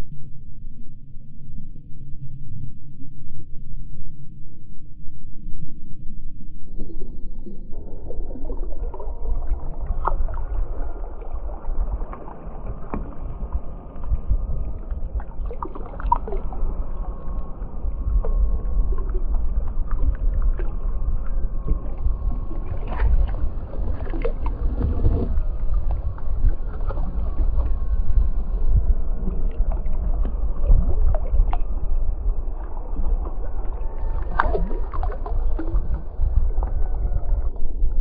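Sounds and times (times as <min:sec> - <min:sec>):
boat rumble: 0:06.5 - 0:38.0
wind on microphone: 0:06.8 - 0:38.0.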